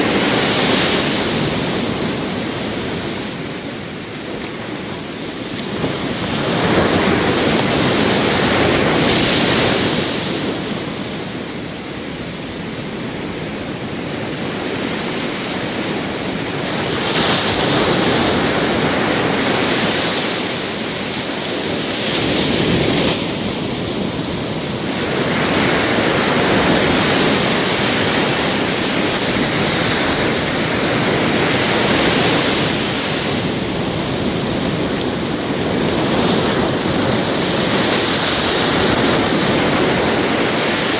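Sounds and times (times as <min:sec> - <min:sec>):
small waves breaking: 0:00.0 - 0:40.9
steady surf rush: 0:00.0 - 0:40.9.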